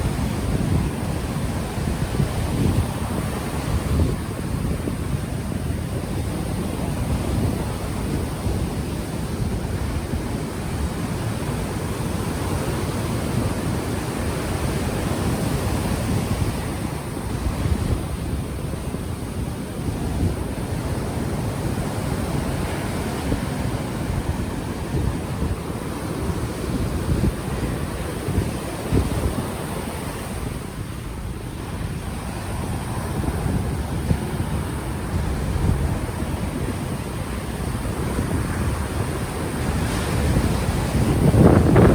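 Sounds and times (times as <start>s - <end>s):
ocean surf washing in: 0.0s - 41.9s
wind buffeting microphone: 0.0s - 41.9s.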